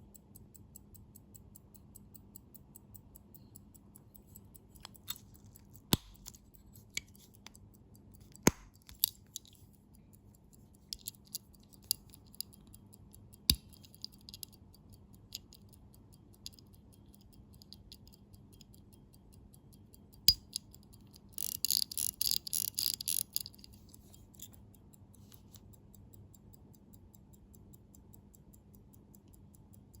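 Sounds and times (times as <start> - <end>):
metal clicks and taps of watch: 0.0 - 30.0.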